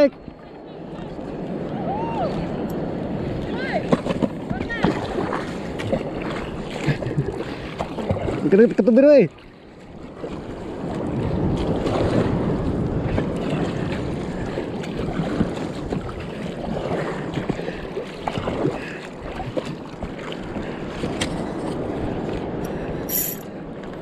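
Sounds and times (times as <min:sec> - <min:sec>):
wind buffeting microphone: 0:00.0 - 0:08.6, 0:09.9 - 0:23.8
water sloshing against kayak: 0:00.1 - 0:24.0.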